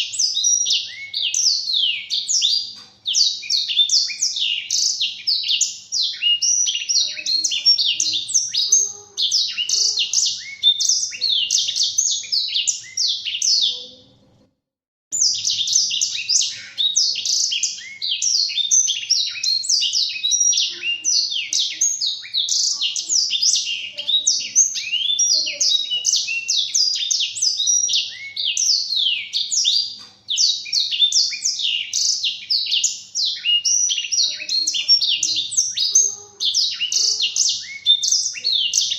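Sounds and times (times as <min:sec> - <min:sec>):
finch singing twittering song: 0:00.0 - 0:14.2, 0:15.2 - 0:38.9.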